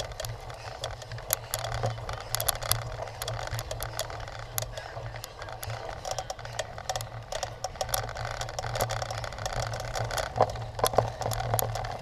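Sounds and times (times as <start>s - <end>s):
bicycle rattling over rough ground: 0.0s - 12.0s
steady low hum: 0.0s - 12.0s.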